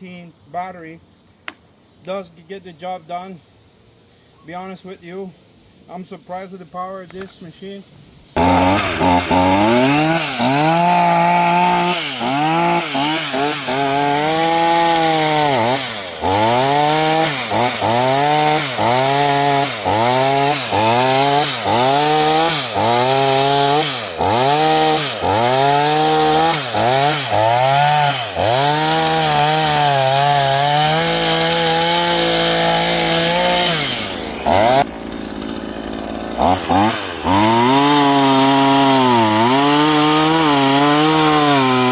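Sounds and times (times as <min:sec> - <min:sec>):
chainsaw cutting through log: 0:08.4 - 0:41.9.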